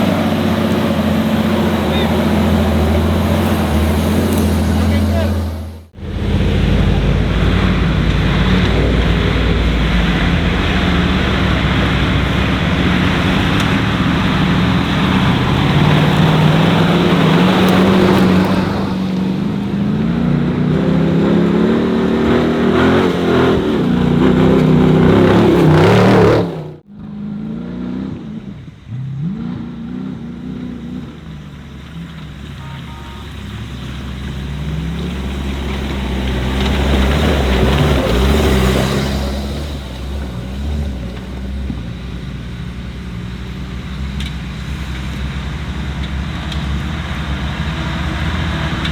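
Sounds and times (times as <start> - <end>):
off-road engines revving: 0.0 - 48.9.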